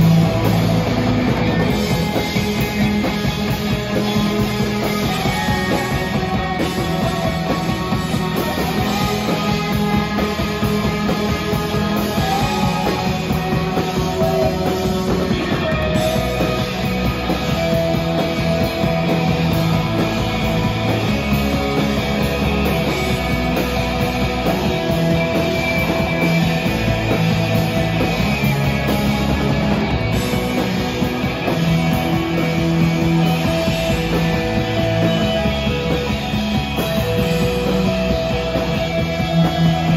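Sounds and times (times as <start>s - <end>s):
live rock band: 0.0s - 39.9s.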